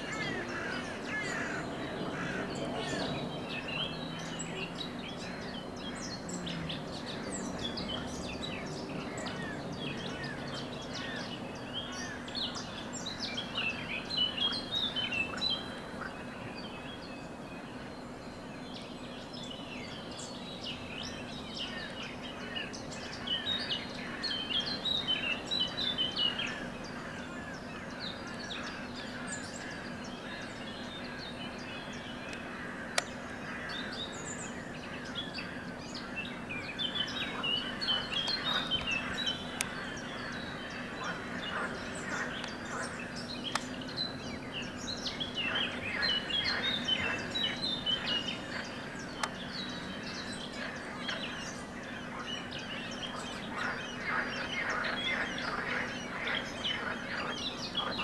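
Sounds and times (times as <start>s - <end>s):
loud rapid birdsong: 0.0s - 58.0s
songbirds chirping: 0.0s - 58.0s
steady low hum: 0.0s - 58.0s.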